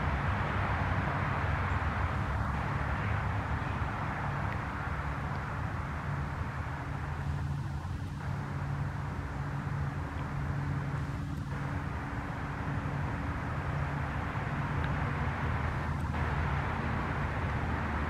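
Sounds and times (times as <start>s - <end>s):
boat diesel engines droning: 0.0s - 18.0s.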